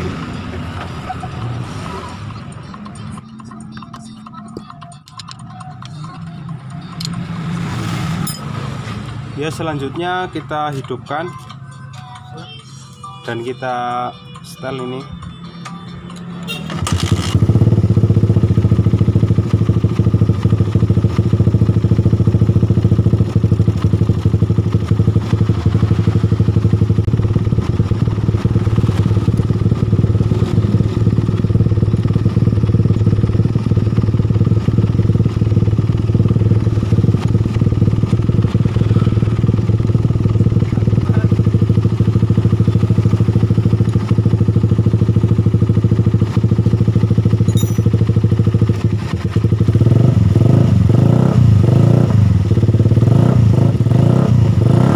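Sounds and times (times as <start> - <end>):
motorcycle engine running: 0.0 - 11.7, 14.6 - 54.9.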